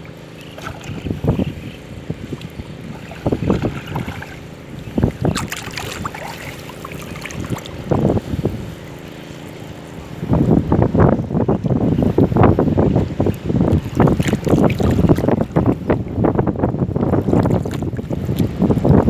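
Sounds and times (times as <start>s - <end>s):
water splashing and sloshing: 0.0s - 19.0s
wind on microphone: 0.0s - 19.0s.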